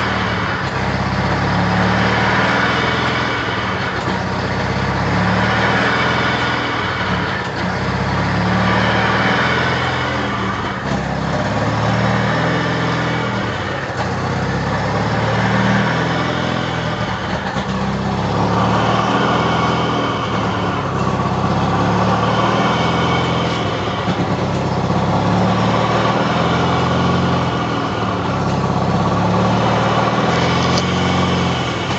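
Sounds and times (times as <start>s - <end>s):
high turbo whine: 0.0s - 31.9s
rotary engine running: 0.0s - 31.9s.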